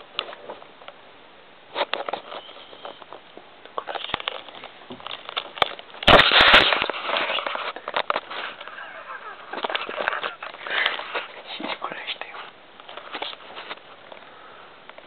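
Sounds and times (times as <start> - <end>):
noisy commotion: 0.0 - 15.0.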